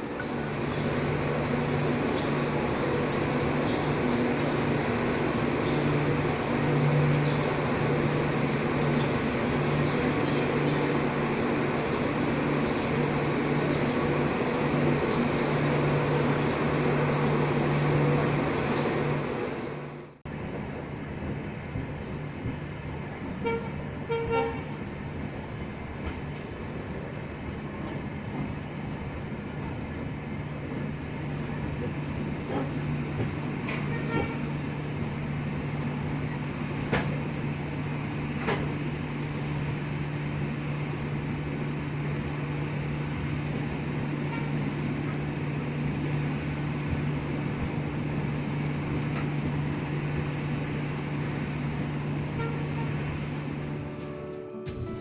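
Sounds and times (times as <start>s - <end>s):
train coach hum: 0.0s - 55.0s.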